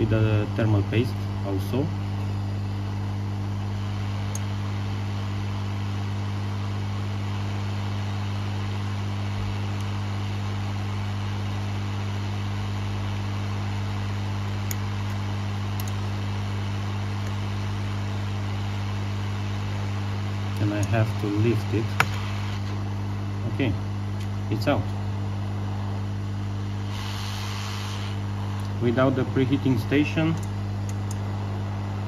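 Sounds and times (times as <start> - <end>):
hot air station blowing: 0.0 - 32.0.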